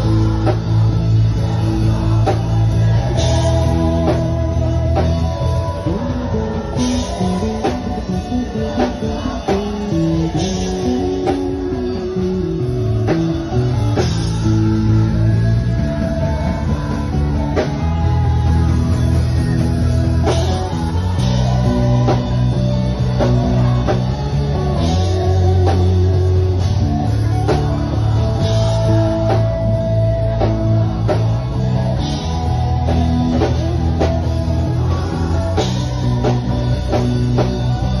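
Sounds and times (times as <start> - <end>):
drum beat: 0.0 - 38.0
electric bass guitar low notes: 0.0 - 38.0.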